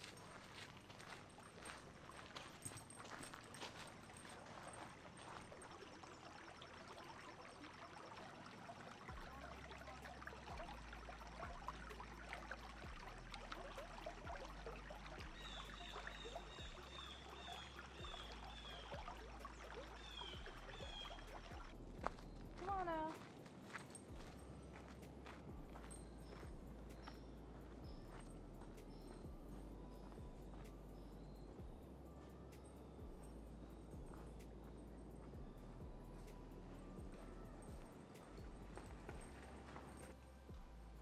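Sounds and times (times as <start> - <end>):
water trickling: 0.0 - 41.0
bird chirping: 6.1 - 40.7.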